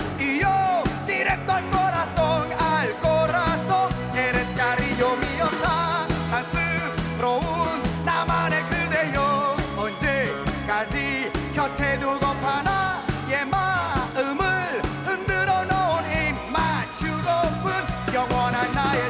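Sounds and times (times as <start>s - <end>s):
band playing a steady beat: 0.0s - 19.0s
man singing into a microphone: 0.0s - 19.0s.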